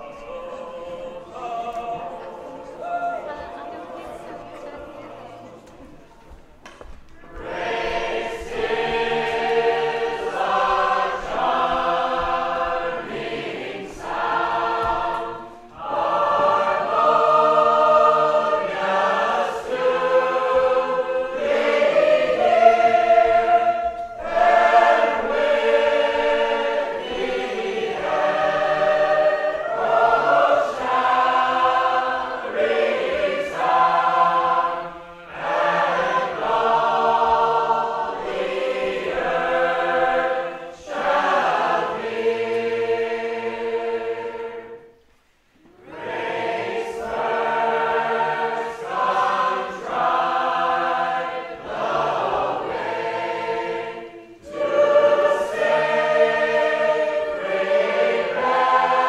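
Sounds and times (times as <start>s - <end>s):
choir singing a hymn in harmony: 0.0s - 6.0s, 7.2s - 59.0s.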